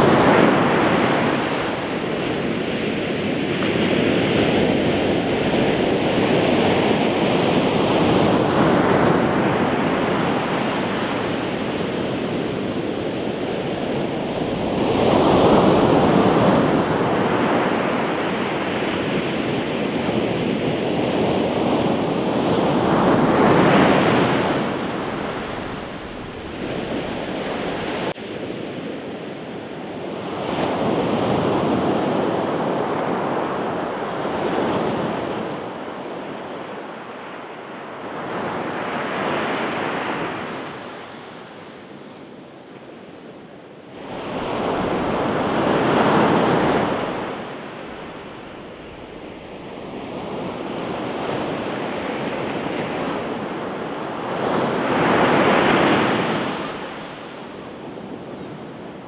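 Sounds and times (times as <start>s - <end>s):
surf breaking on a beach: 0.0s - 43.0s, 43.8s - 59.0s.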